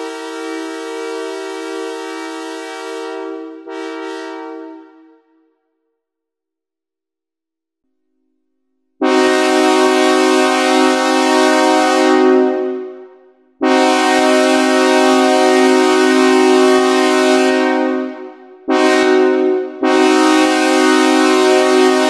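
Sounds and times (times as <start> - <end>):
synthesizer chord imitating air horn: 0.0 - 5.4, 9.0 - 22.0.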